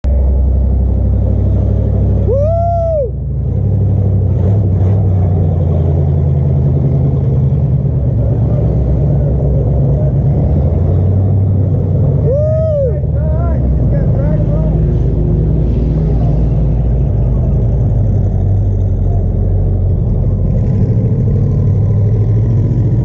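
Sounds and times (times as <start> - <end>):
vehicle engine drone: 0.0 - 23.0.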